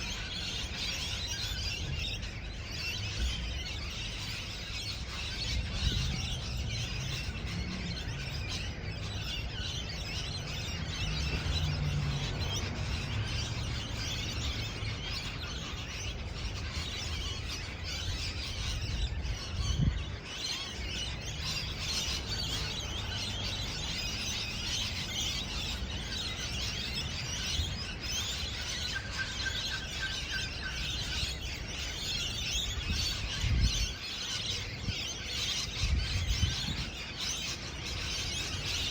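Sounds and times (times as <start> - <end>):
parrots chattering and chirping: 0.0 - 38.9.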